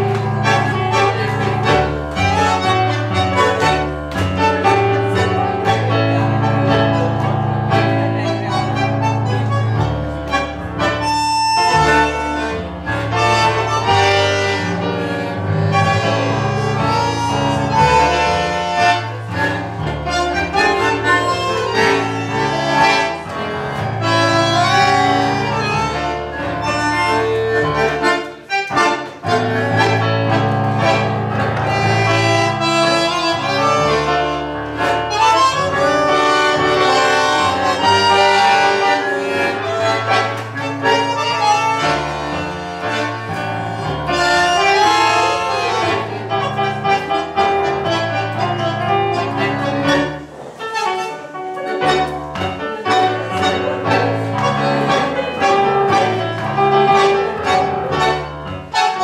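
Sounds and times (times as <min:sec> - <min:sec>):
bandoneon melody: 0:00.0 - 0:59.0
electric keyboard accompaniment: 0:00.0 - 0:59.0.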